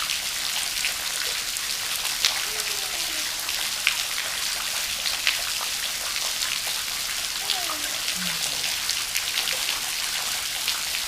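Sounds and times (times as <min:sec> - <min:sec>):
raindrops ticking: 0:00.0 - 0:11.0
steady rain hiss: 0:00.0 - 0:11.0.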